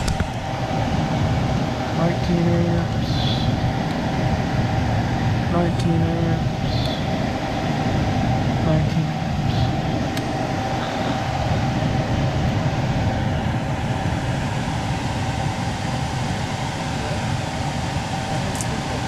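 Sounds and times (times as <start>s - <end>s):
air conditioner hum and whir: 0.0s - 19.0s.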